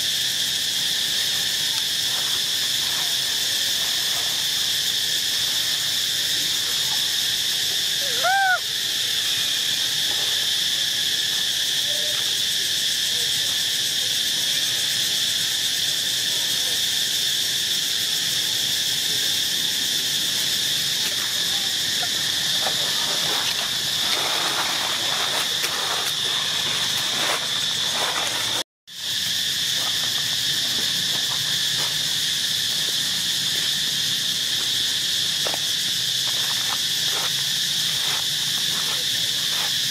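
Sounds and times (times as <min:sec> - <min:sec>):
insect chorus buzzing: 0:00.0 - 0:39.9.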